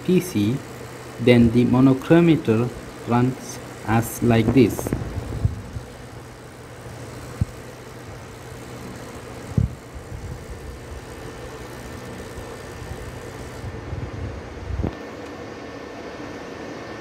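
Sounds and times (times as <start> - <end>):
motor drive humming: 0.0 - 17.0.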